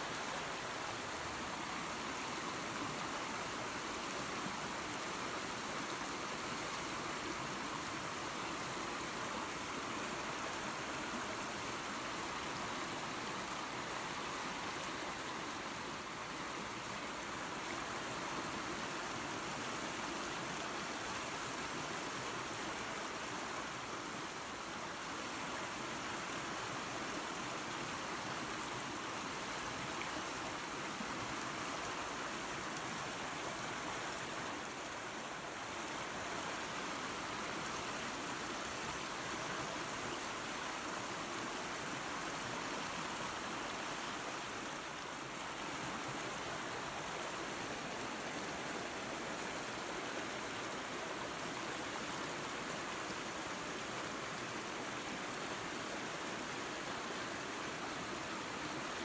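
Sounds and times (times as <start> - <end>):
waterfall and creek rushing: 0.0 - 59.0.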